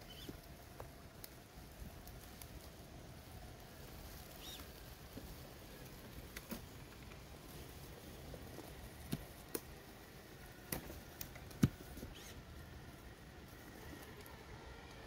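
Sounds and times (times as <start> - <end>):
twigs and leaves crackling: 0.0 - 14.4
faint steady hiss: 0.0 - 15.0.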